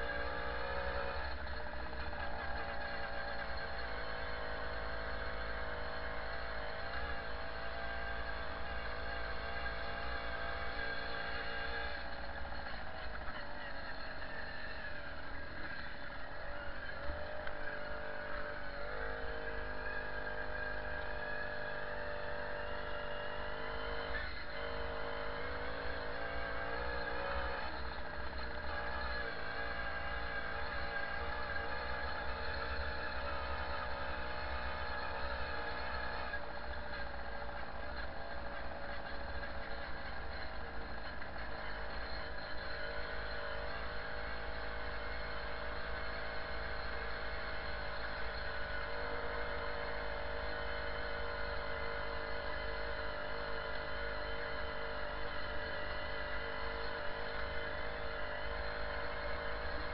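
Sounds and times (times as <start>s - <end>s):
moped engine running: 0.0s - 59.9s.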